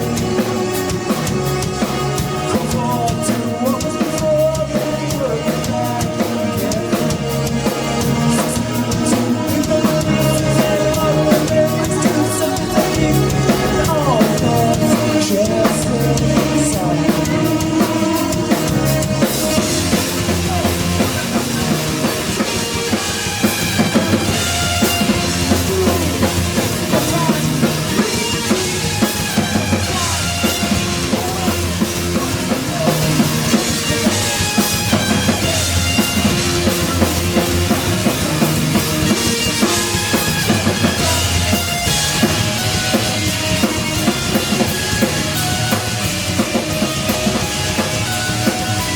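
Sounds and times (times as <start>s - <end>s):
bass line: 0.0s - 48.9s
drum kit beat: 0.0s - 48.9s
keyboard: 0.0s - 48.9s.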